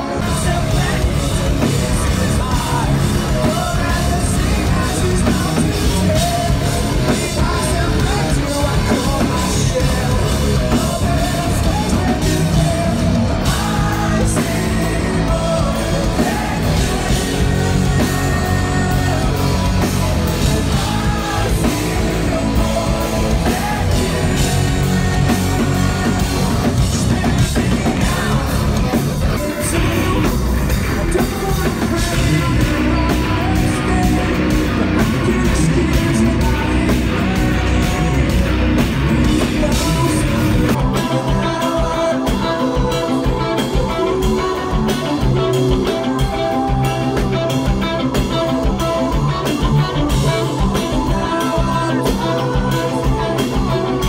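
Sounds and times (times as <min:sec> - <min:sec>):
live rock band playing: 0:00.0 - 0:54.0
man singing: 0:00.0 - 0:54.0.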